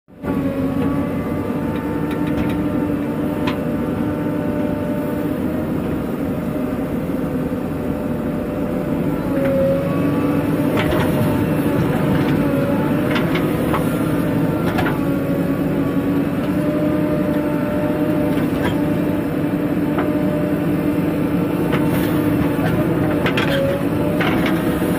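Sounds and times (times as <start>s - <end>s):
diesel engine running under load: 0.1s - 24.9s.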